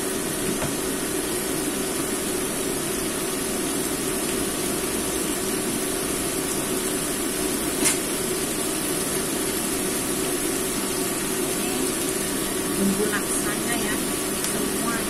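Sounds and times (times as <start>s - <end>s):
stove hiss and hum: 0.0s - 15.0s.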